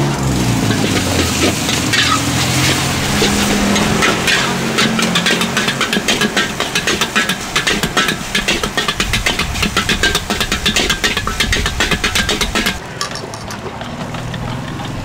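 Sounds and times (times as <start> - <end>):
wok burner rumble: 0.0 - 15.0
metal utensils scraping a wok: 0.2 - 15.0.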